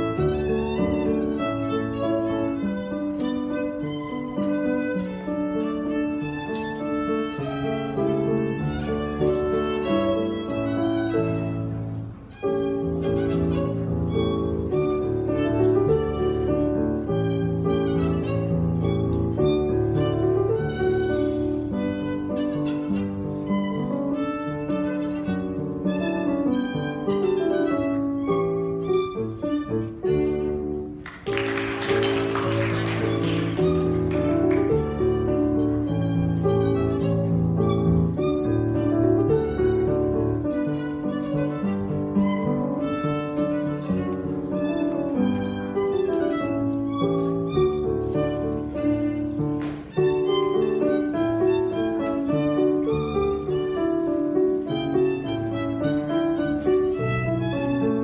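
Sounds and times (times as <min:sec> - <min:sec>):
violin playing: 0:00.0 - 0:58.0.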